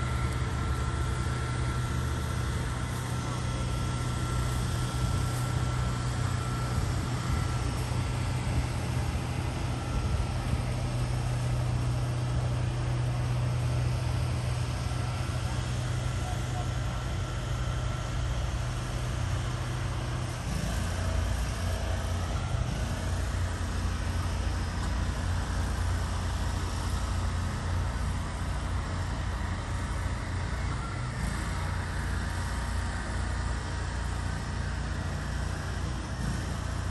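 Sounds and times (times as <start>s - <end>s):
truck diesel engine under load: 0.0s - 36.9s.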